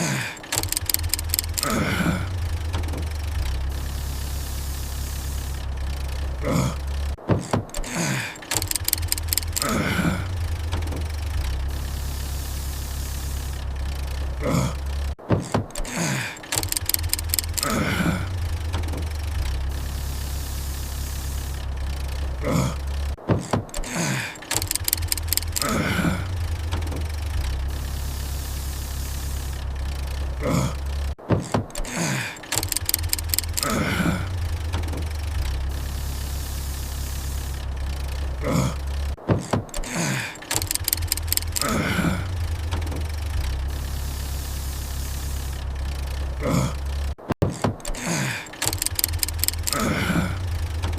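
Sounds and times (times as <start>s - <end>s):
car engine cranking without starting: 0.0s - 50.9s
clicks and sputtering tones: 0.0s - 50.9s.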